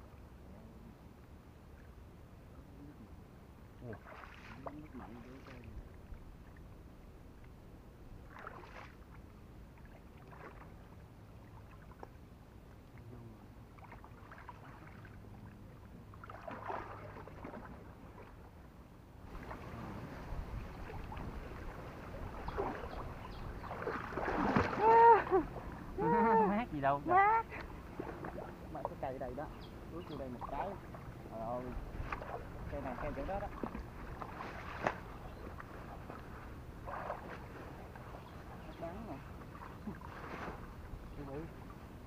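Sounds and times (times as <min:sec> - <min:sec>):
water sloshing and splashing: 0:03.8 - 0:42.0.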